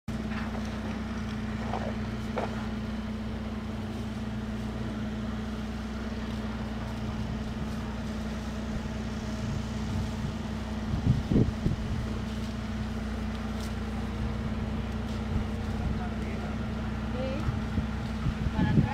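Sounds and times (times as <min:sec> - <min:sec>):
low mechanical hum: 0:00.1 - 0:18.9.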